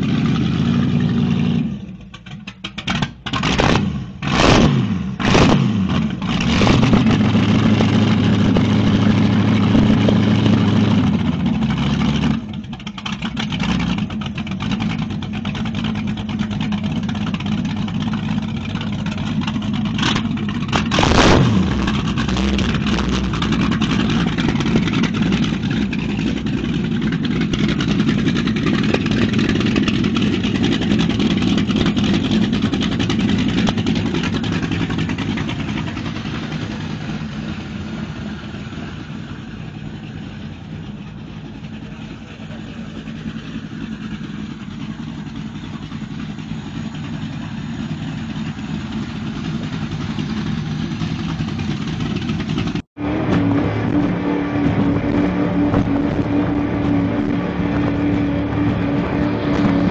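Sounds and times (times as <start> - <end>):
racing boat engines running: 0.0 - 59.9.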